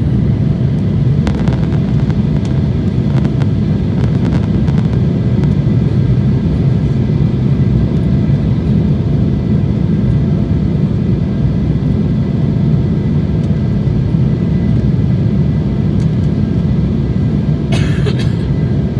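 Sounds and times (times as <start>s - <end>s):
faint steady whine: 0.0s - 18.9s
jet cabin engine rumble: 0.0s - 18.9s.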